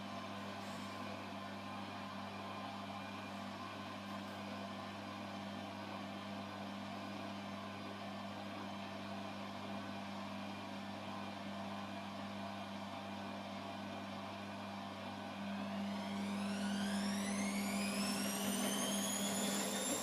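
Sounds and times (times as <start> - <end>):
washing machine running: 0.0 - 20.0.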